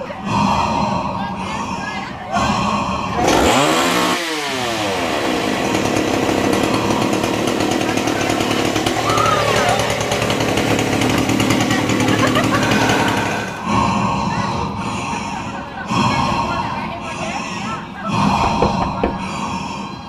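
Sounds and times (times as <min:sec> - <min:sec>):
chainsaw running: 0:02.5 - 0:20.0.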